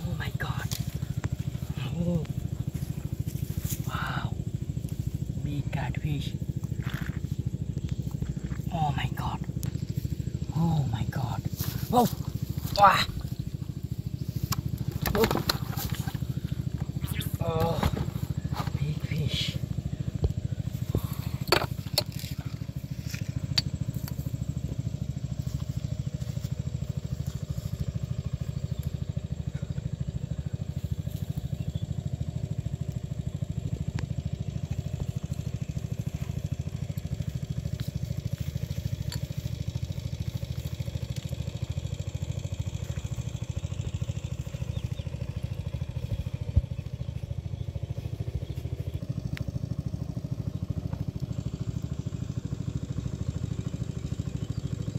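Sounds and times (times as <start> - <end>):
engine droning: 0.0 - 54.9.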